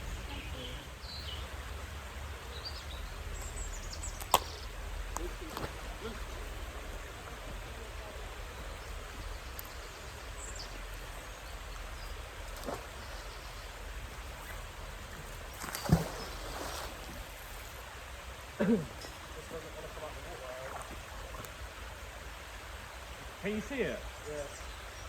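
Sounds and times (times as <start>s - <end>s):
outdoor background noise by water: 0.0s - 25.0s.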